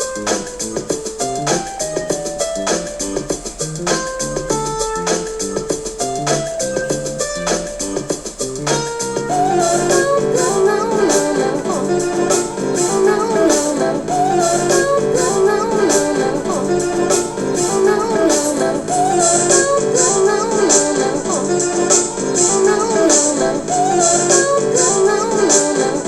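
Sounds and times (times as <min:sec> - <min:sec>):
sustained chords: 0:00.0 - 0:25.4
percussion beat: 0:00.0 - 0:26.0
wavering melody line: 0:00.0 - 0:26.0.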